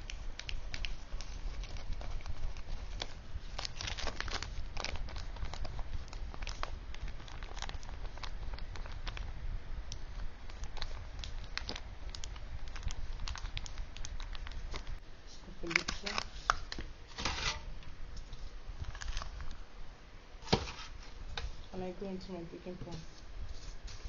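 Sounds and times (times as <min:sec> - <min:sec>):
crinkling: 0:00.0 - 0:19.6.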